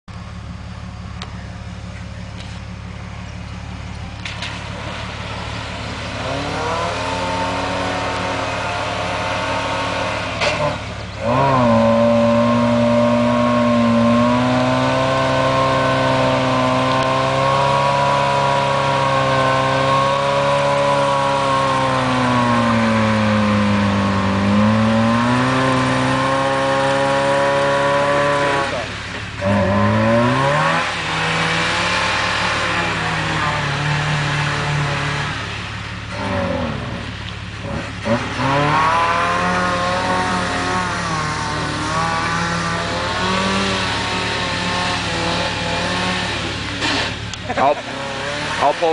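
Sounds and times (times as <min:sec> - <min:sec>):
car engine revving hard: 0:04.2 - 0:48.9.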